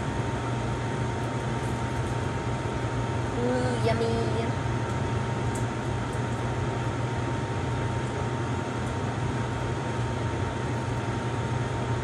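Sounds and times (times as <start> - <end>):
exhaust fan humming and whirring: 0.0 - 12.0.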